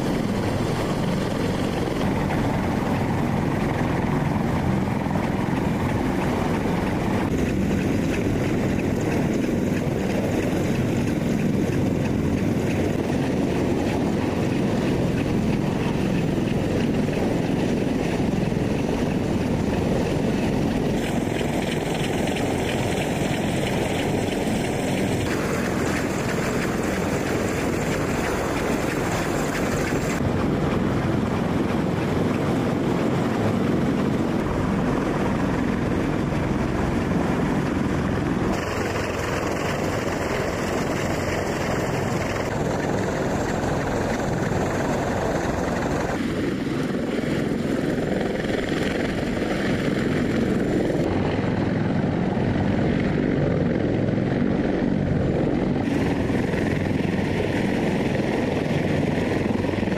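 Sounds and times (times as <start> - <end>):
helicopter rotor and turbine noise: 0.0 - 59.9.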